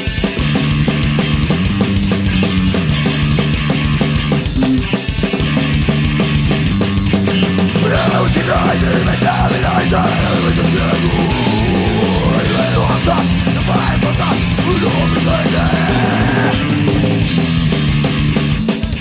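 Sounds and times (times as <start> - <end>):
distorted electric guitars: 0.0 - 19.0
live rock band playing: 0.0 - 19.0.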